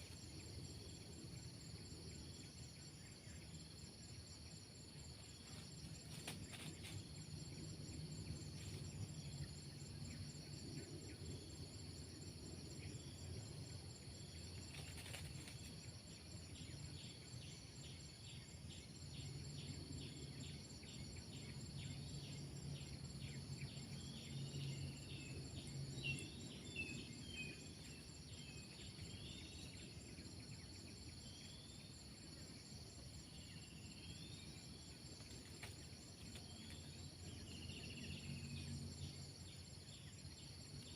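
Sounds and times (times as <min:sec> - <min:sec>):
crickets trilling: 0:00.0 - 0:40.9
quick cricket chirps: 0:00.0 - 0:40.9.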